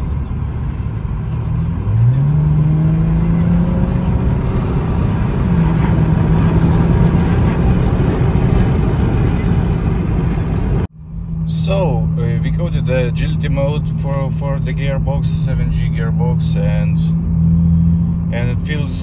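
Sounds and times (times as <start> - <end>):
diesel engine accelerating: 0.0 - 19.0.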